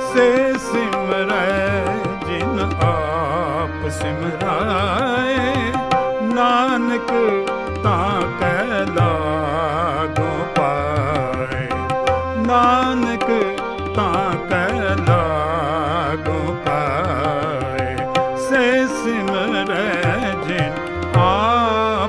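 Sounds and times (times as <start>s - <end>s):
harmonium held notes: 0.0s - 22.0s
tabla accompaniment: 0.0s - 22.0s.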